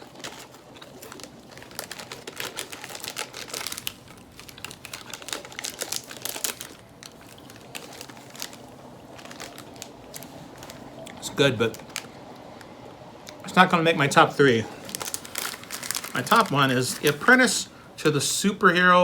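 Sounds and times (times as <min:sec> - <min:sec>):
wafer cookie crunching: 0:00.0 - 0:17.7.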